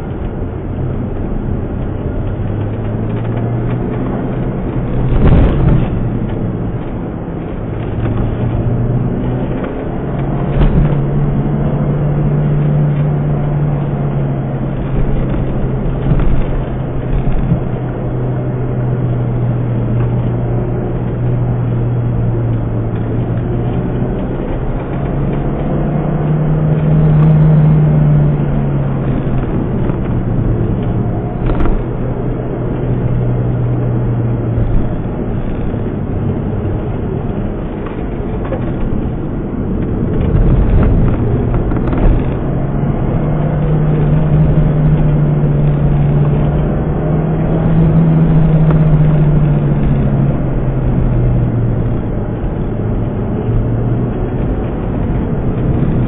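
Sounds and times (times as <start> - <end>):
car engine hum from inside cabin: 0.0 - 56.0.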